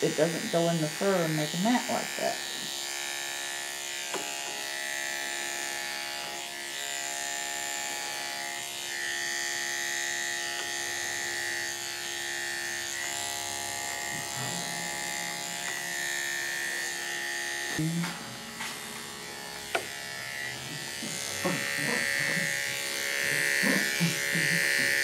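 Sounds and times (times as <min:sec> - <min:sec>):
electric clipper motor humming: 0:00.0 - 0:25.0.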